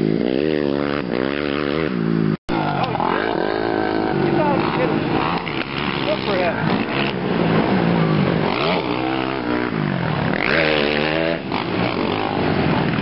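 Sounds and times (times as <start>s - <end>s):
quad engines revving: 0.0s - 13.0s.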